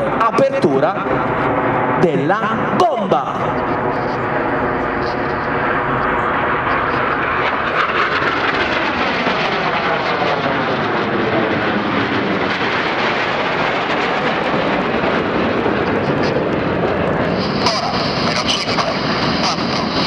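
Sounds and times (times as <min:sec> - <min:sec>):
jet engines passing overhead: 0:00.0 - 0:20.0.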